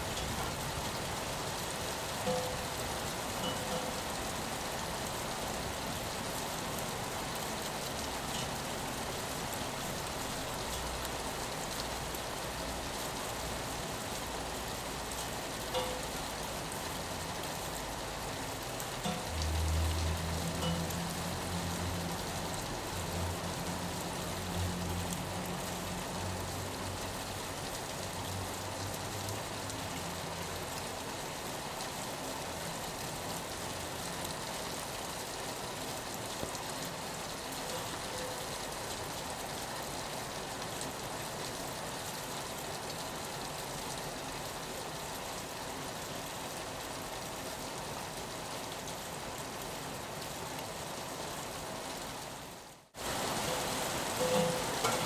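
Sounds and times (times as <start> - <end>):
rain pattering on a window: 0.0 - 55.0.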